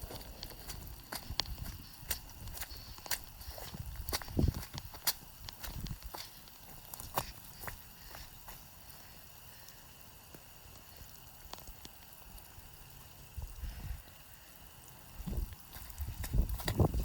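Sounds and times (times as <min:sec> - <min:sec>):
raindrops ticking on phone: 0:00.0 - 0:16.8
rain falling: 0:00.0 - 0:17.0.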